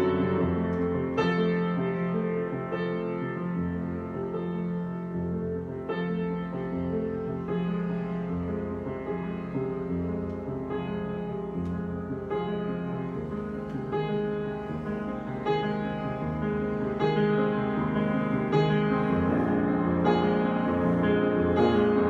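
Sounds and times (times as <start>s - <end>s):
solo piano chords: 0.0s - 22.0s.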